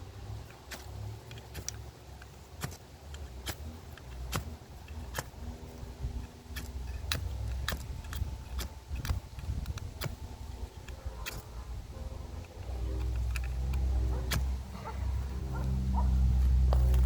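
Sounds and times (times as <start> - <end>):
ferro rod scraping: 0.0 - 17.0
steady low rumble: 0.0 - 17.0.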